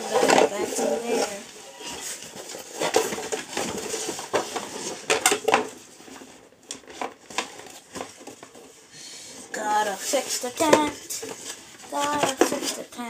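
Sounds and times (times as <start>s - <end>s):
small hard objects clattering: 0.0s - 8.8s, 9.6s - 13.0s.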